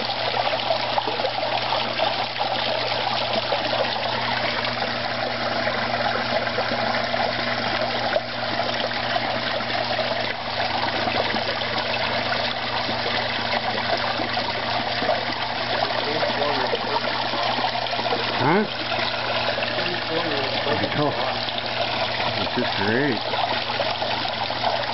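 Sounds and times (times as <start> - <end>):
water trickling in pond: 0.0 - 24.9.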